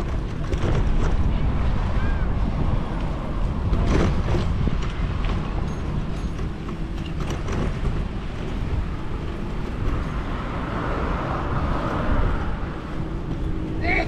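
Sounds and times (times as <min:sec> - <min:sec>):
bicycle road noise: 0:00.0 - 0:14.0
passing vehicle: 0:00.0 - 0:14.0
wind buffeting microphone: 0:00.0 - 0:14.0.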